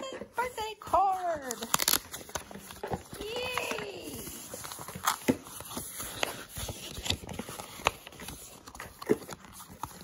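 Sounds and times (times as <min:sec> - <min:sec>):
paper crinkling: 0:00.3 - 0:10.0.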